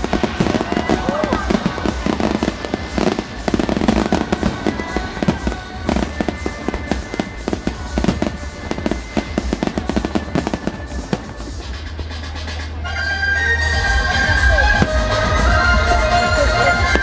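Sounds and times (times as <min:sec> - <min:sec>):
fireworks bangs and crackles: 0:00.0 - 0:12.8, 0:13.9 - 0:17.0
music playing: 0:00.0 - 0:17.0.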